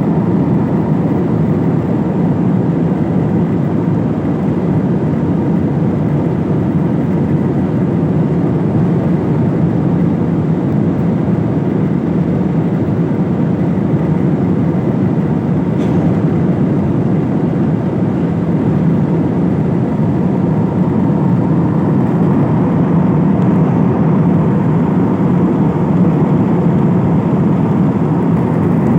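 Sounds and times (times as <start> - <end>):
airliner cabin engine rush: 0.0 - 28.9
faint steady whine: 0.0 - 28.9.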